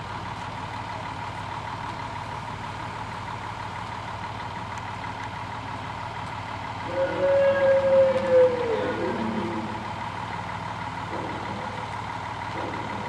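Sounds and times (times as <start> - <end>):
diesel railcar idling: 0.0 - 13.0.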